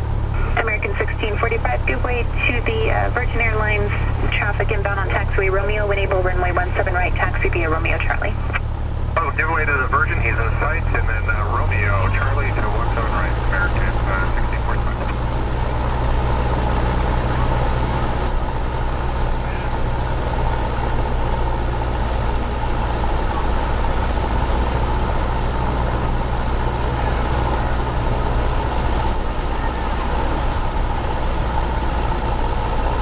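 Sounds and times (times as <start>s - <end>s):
airplane engine drone: 0.0s - 33.0s.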